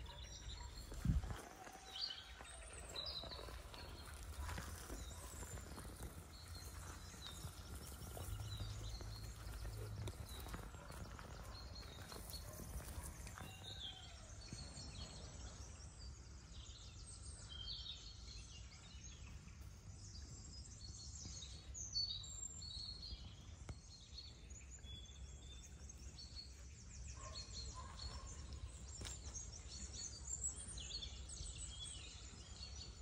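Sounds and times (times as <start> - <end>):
birds chirping and singing: 0.0 - 19.5, 20.8 - 33.0.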